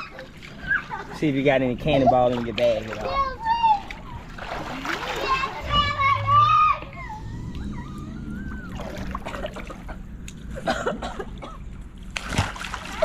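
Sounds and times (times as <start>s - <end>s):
water splashing in a pool: 0.0s - 6.7s, 7.8s - 10.5s, 11.2s - 13.0s.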